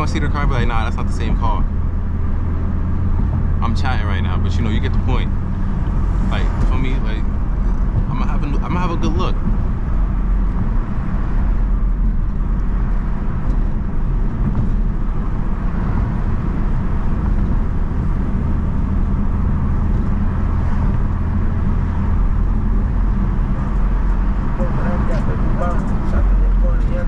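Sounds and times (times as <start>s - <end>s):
car engine rumble inside cabin: 0.0s - 27.0s
road noise: 0.0s - 27.0s.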